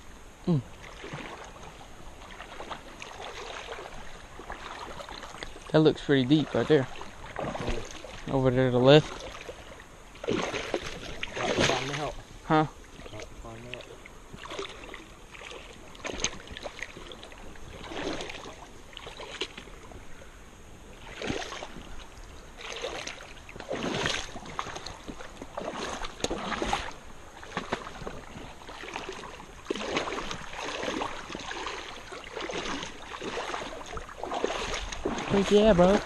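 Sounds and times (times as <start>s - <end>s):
creek water sloshing and splashing: 0.0s - 36.0s.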